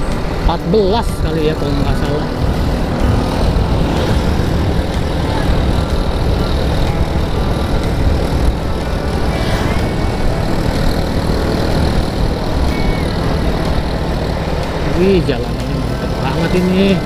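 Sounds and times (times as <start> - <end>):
motorcycle engine running: 0.0 - 17.0
wind and road rumble: 0.0 - 17.0.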